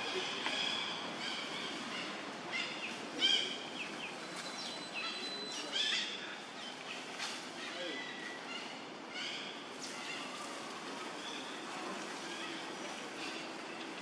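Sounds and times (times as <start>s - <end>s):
forest background hiss: 0.0s - 14.0s.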